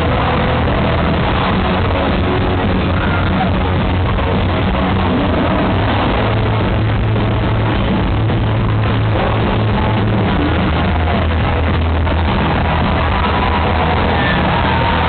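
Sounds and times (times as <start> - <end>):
live rock band music: 0.0 - 15.0.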